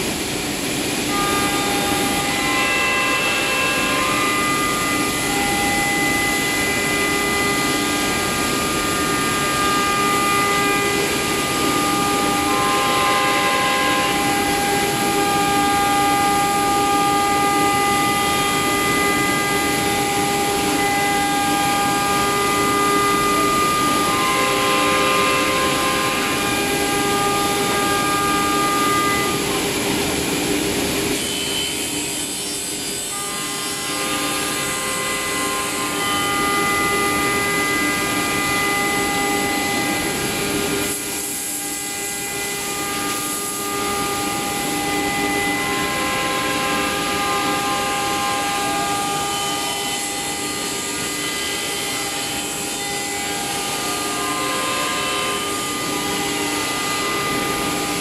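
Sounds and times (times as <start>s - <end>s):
router spindle high whine: 0.0s - 58.0s.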